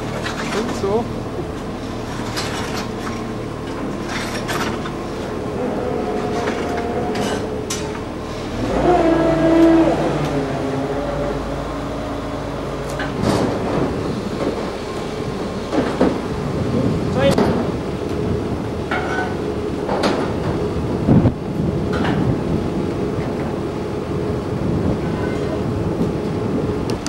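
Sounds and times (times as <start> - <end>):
crane engine running: 0.0 - 27.0.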